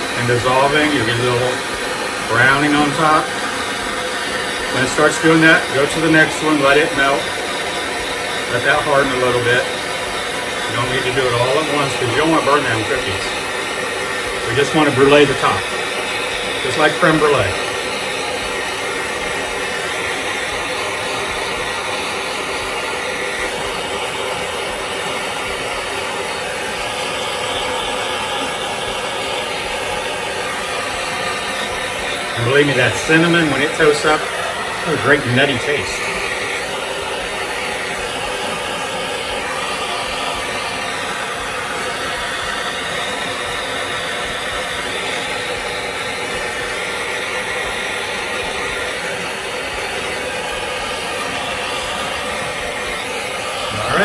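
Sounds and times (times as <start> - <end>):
propane torch hissing: 0.0 - 54.0.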